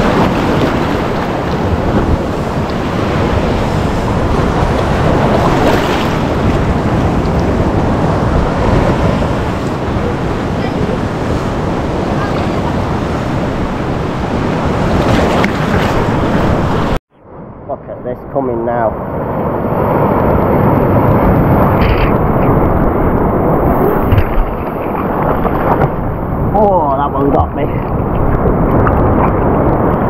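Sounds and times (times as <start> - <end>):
waves breaking: 0.0 - 17.0, 18.7 - 30.0
wind buffeting microphone: 0.0 - 30.0.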